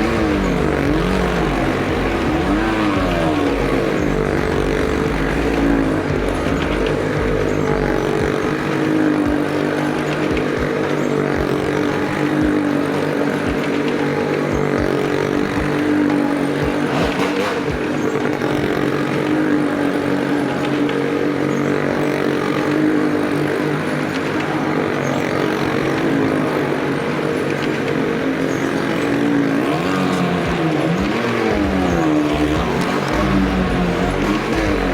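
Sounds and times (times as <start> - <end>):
vehicle engines circling: 0.0 - 34.9.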